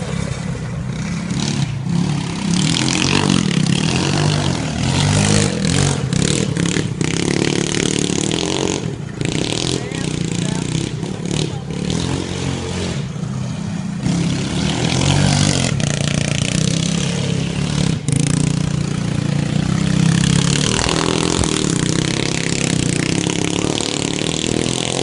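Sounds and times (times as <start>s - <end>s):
engine running and revving: 0.0s - 25.0s.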